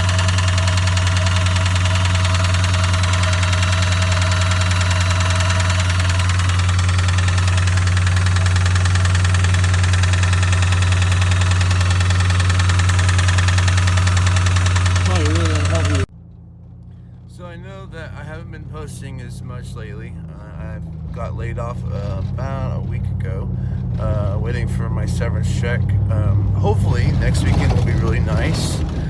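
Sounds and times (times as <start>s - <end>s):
car engine idling with knock: 0.0s - 29.0s.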